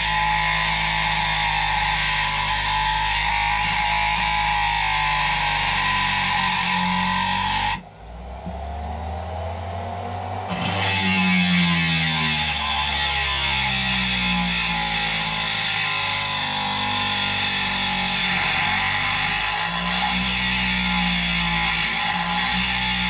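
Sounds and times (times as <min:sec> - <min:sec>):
rotary tool cutting metal: 0:00.0 - 0:07.8, 0:10.5 - 0:23.0.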